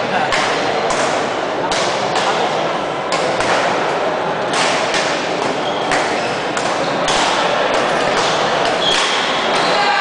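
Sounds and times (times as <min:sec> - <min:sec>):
sports hall din: 0:00.0 - 0:10.0
rackets hitting shuttlecock: 0:00.1 - 0:09.8.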